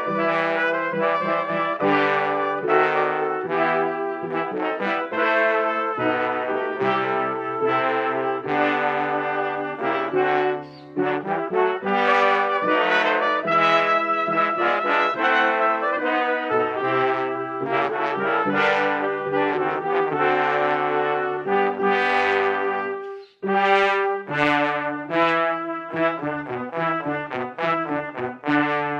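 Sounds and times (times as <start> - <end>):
brass ensemble playing: 0.0 - 28.9
piano: 0.0 - 28.9.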